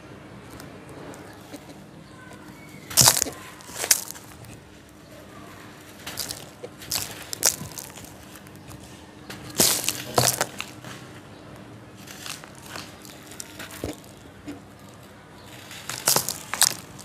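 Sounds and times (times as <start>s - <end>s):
hands crumbling dry sand: 0.4s - 11.2s, 11.9s - 17.0s.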